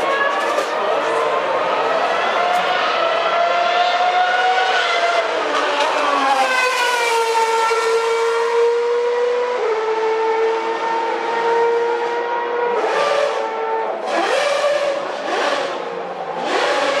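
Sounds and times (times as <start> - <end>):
racing car engines at high revs: 0.0 - 17.0.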